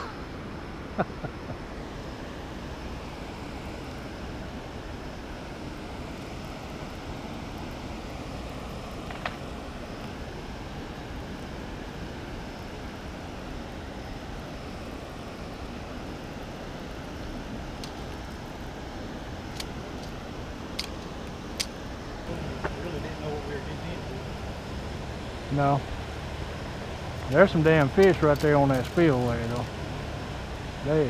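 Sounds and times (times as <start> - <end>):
water rushing through spillway: 1.8 - 31.0.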